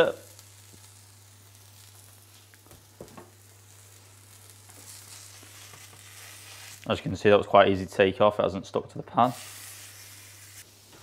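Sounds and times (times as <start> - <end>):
chicken sizzling on grill pan: 0.0 - 7.4, 9.2 - 11.0.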